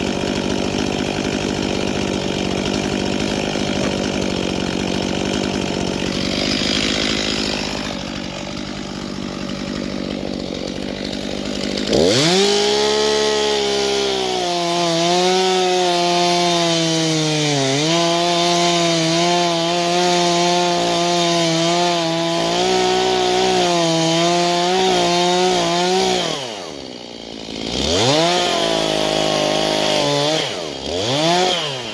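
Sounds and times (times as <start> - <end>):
chainsaw cutting wood: 0.0 - 31.9.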